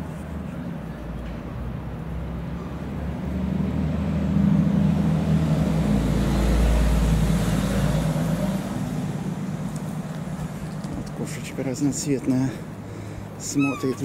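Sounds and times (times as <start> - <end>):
vehicle passing by: 1.7 - 14.0.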